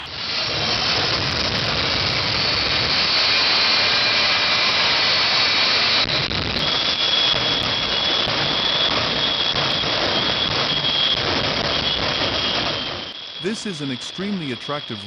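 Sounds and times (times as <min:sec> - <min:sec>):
jet engine roaring with whine: 0:00.0 - 0:15.0.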